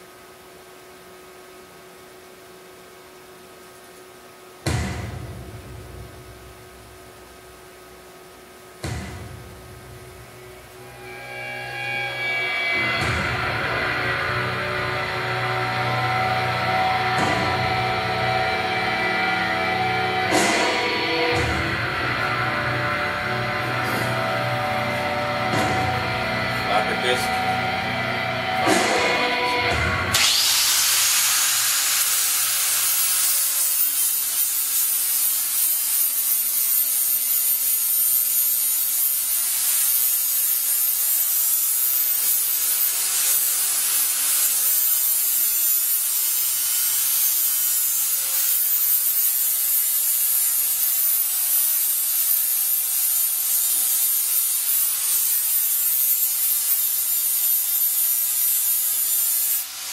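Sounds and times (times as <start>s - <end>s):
angle grinder grinding metal: 10.4s - 59.9s.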